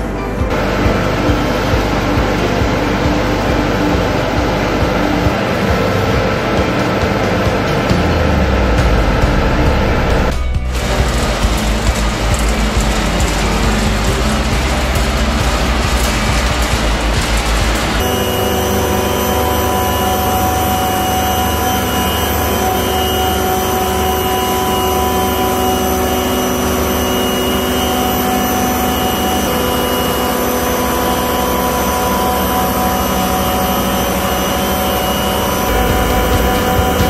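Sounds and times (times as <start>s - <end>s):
compressor machine drone: 0.0s - 37.0s
steady machine whine: 0.0s - 37.0s.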